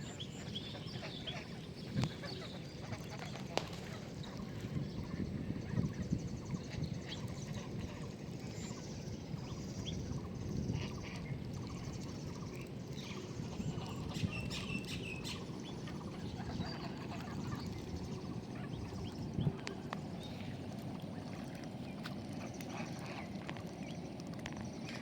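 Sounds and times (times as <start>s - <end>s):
birds chirping and calling: 0.0s - 21.4s
low background rumble: 0.0s - 24.9s.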